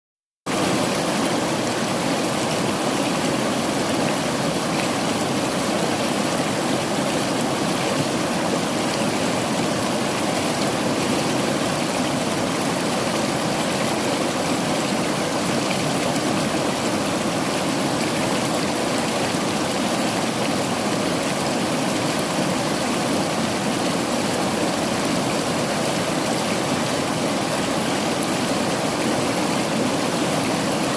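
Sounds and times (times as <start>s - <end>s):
river water flowing over rocks: 0.5s - 30.9s.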